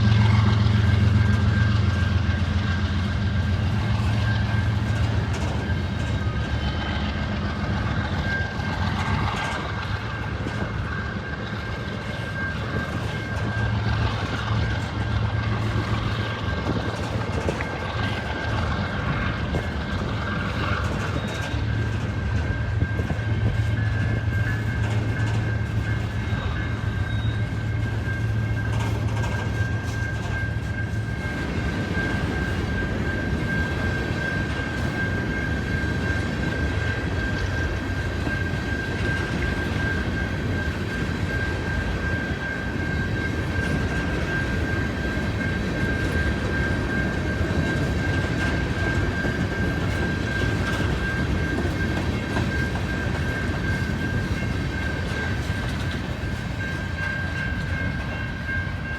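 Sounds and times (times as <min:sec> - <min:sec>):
diesel locomotive engine droning: 0:00.0 - 0:58.9
train cars rumbling over rails: 0:00.0 - 0:58.9.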